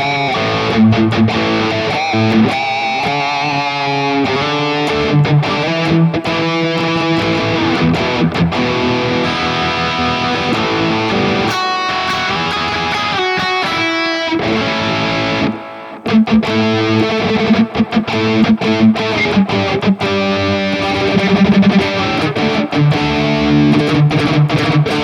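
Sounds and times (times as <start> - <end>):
distorted electric guitar: 0.0 - 25.0.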